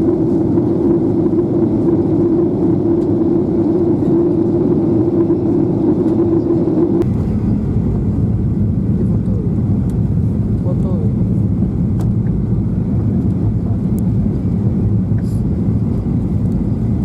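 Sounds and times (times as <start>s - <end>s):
airplane cabin engine rush: 0.0s - 17.0s.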